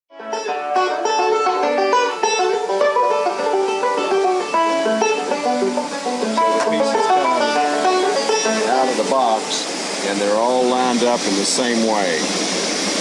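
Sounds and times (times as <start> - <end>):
bluegrass banjo picking: 0.1 - 12.0.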